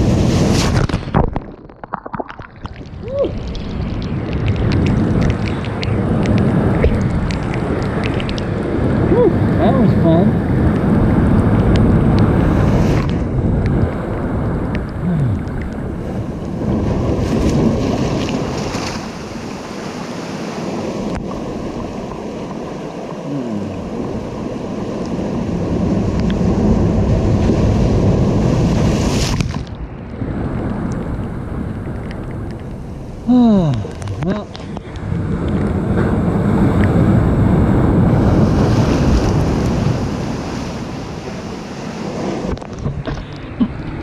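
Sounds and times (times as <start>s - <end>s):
ocean surf breaking: 0.0s - 44.0s
wind rumbling on microphone: 0.0s - 44.0s.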